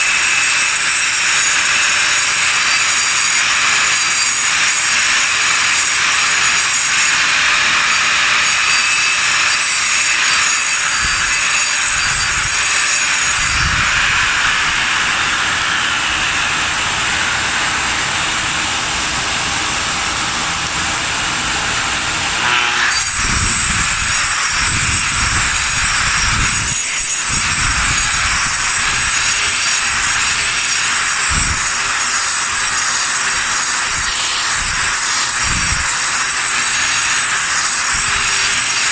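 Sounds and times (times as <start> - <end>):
grinder cutting concrete: 0.0 - 38.9.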